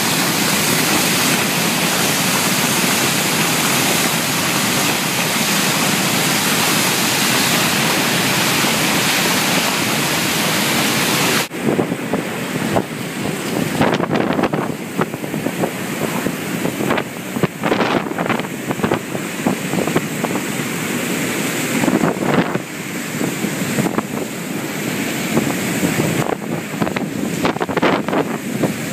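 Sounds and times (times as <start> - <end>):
heavy roar of falling water: 0.0 - 28.9
rushing churning water: 0.0 - 28.9
wind buffeting microphone: 0.0 - 28.9.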